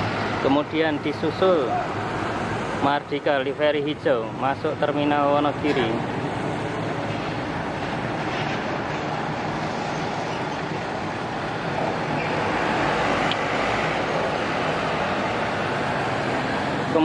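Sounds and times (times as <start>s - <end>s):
bus diesel engine running: 0.0s - 17.0s
road traffic noise: 0.0s - 17.0s.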